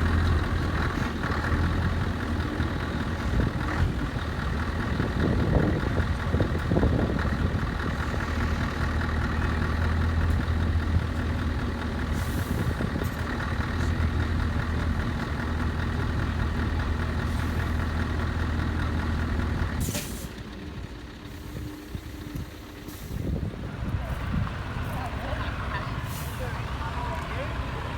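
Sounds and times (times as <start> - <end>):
diesel truck engine idling: 0.0 - 27.9.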